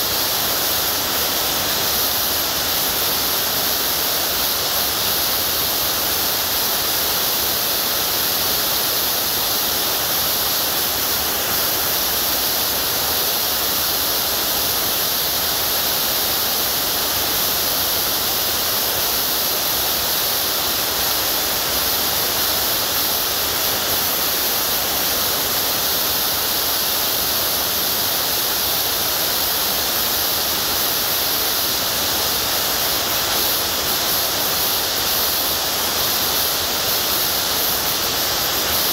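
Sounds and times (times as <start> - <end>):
steady loud hiss: 0.0 - 38.9.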